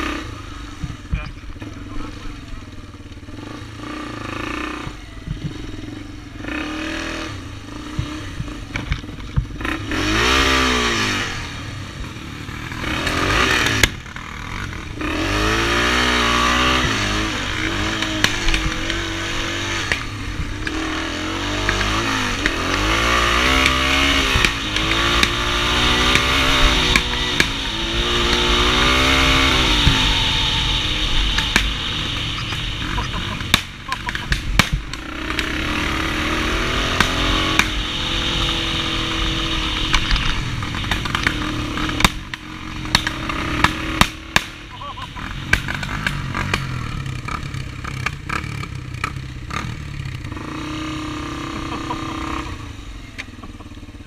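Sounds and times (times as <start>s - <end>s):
misfiring engine revving: 0.0s - 54.0s.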